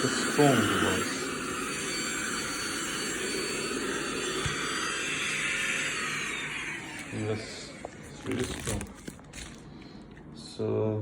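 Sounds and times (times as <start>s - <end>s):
vacuum motor whine: 0.0s - 10.0s.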